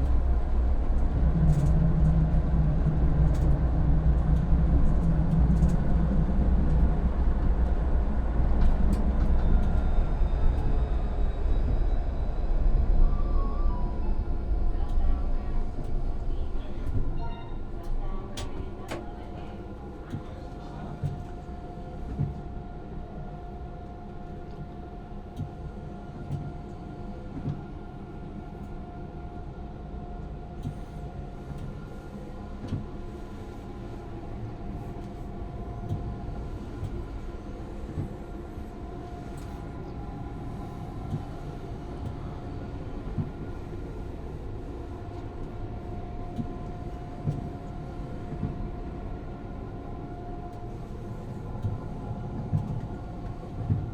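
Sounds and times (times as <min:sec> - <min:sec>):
tram rumbling: 0:00.0 - 0:53.9.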